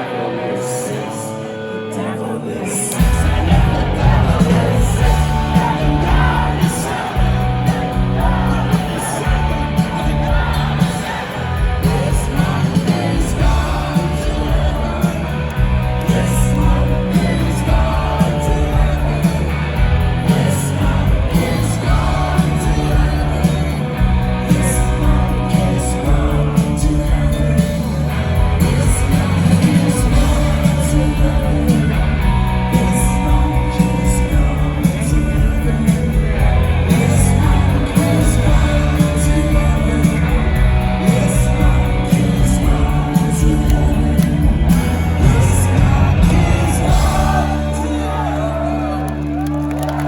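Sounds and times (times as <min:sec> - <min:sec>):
sung vocals: 0:00.0 - 0:50.0
live rock band playing: 0:02.8 - 0:50.0
heavy bass line: 0:03.0 - 0:50.0.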